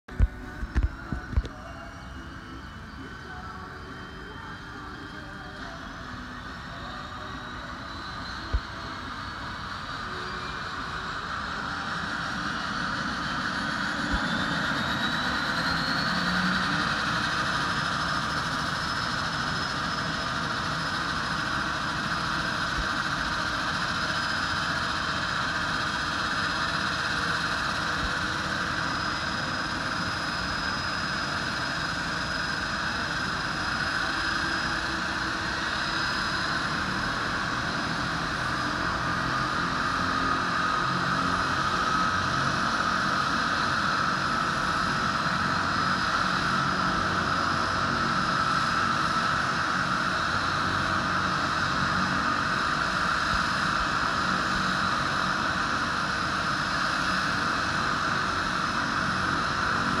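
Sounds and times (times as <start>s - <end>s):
turbine whine: 0.0s - 60.0s
propeller noise: 0.1s - 60.0s.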